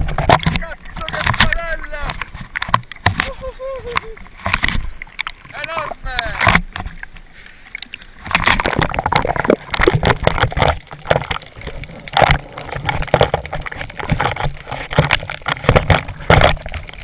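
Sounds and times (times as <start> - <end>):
knocks and crackles: 0.0 - 7.2, 7.8 - 17.0
water sloshing against camera: 0.0 - 17.0.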